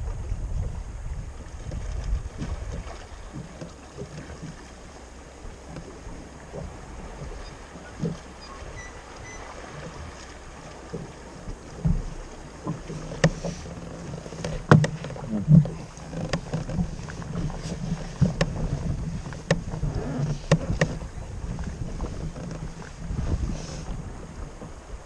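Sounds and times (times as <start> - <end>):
low steady rumble: 0.0 - 25.0
water knocking against kayak hull: 0.0 - 25.0.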